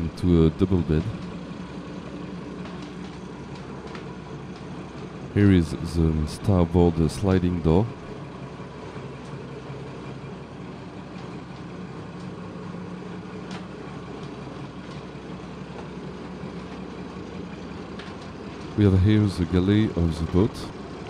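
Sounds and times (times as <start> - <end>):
diesel engines idling: 0.0 - 21.0.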